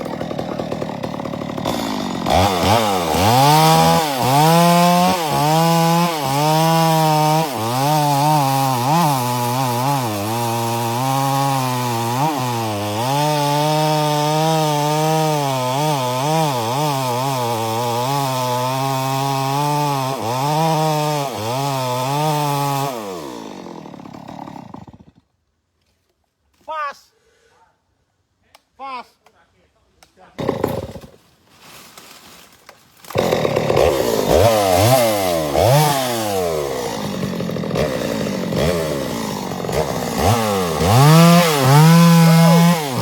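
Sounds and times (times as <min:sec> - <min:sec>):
chainsaw cutting wood: 0:00.0 - 0:25.3, 0:30.4 - 0:31.3, 0:33.0 - 0:43.0.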